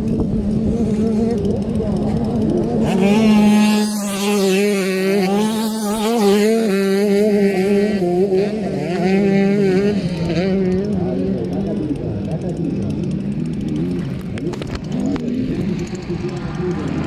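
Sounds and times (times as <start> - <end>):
drone rotors humming: 0.0 - 17.0.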